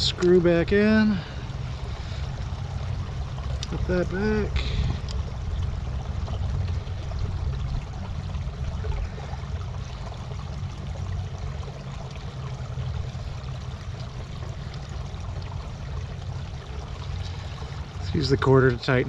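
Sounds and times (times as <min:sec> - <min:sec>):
creek trickling: 0:00.0 - 0:19.0
low rumble: 0:00.0 - 0:19.0.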